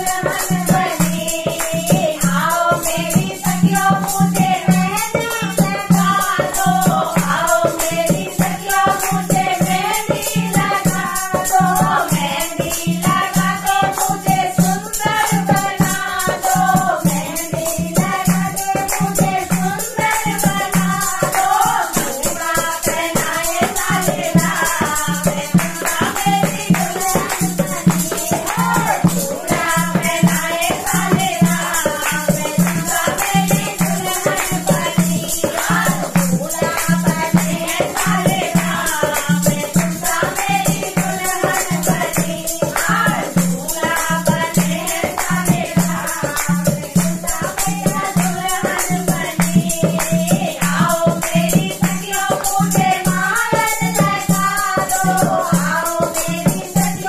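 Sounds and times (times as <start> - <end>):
hand clapping: 0.0 - 57.0
hand drum: 0.0 - 57.0
women singing together: 0.0 - 57.0.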